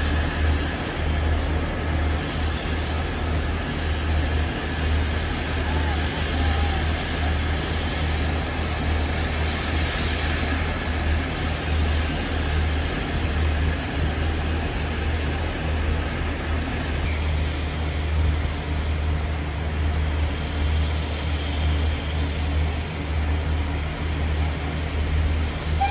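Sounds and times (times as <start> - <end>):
steam hiss: 0.0 - 25.9
steam locomotive rumble: 0.0 - 25.9.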